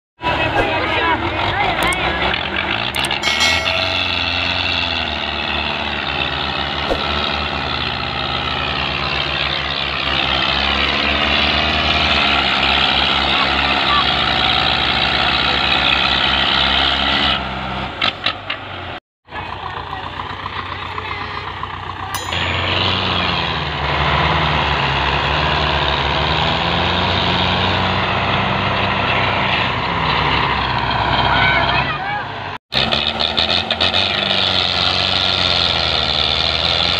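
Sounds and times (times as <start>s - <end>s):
tractor diesel engine under load: 0.2s - 36.9s.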